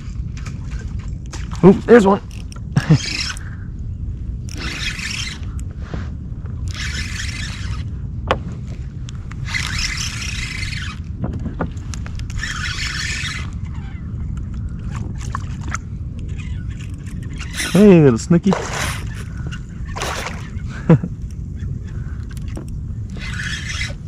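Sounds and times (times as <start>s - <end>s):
low rumble of wind and water: 0.0s - 24.0s
fishing reel whirring: 1.9s - 3.6s, 4.4s - 5.8s, 6.5s - 8.0s, 9.4s - 24.0s.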